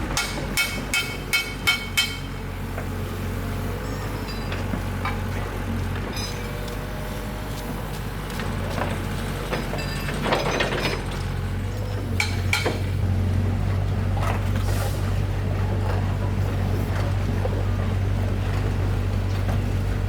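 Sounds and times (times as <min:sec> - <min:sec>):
engine running at low speed: 0:00.0 - 0:20.0.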